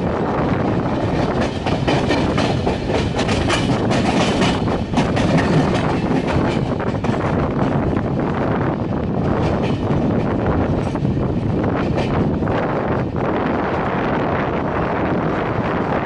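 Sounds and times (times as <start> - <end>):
train wheels clattering over rails: 0.0 - 13.9.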